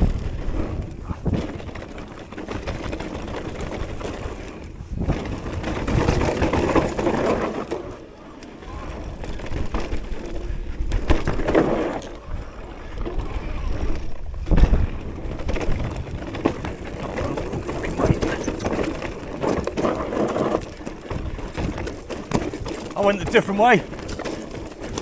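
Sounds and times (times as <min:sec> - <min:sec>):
bike knocks and rattles: 0:00.0 - 0:12.3, 0:13.0 - 0:25.0
bike tyres on dirt trail: 0:00.0 - 0:25.0.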